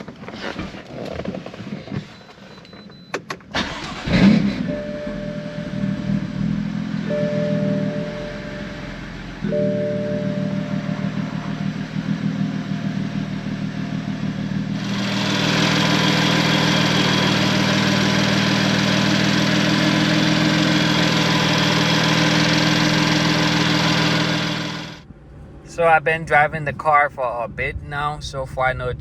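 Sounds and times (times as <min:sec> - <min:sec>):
car engine and exhaust drone: 0:00.0 - 0:29.0.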